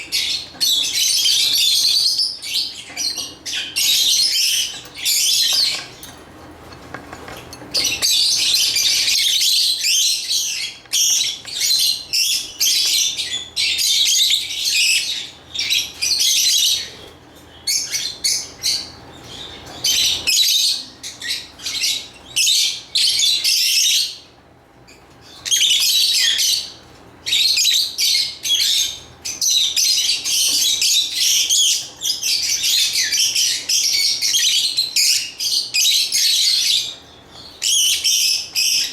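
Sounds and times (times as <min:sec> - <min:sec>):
lovebirds chirping: 0:00.0 - 0:06.8, 0:07.4 - 0:24.3, 0:24.9 - 0:38.9.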